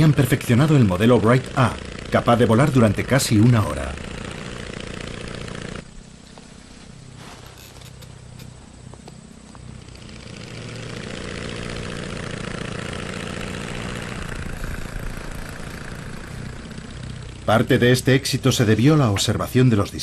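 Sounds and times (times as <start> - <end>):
propeller aeroplane engine: 0.0 - 20.0.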